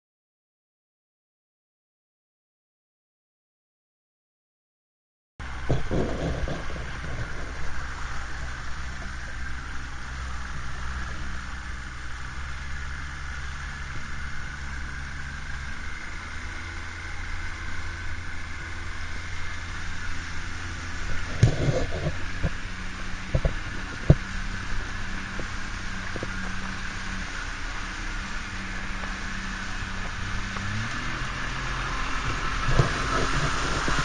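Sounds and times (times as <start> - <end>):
low bumps: 5.4 - 34.0
outboard motor humming: 5.4 - 34.0.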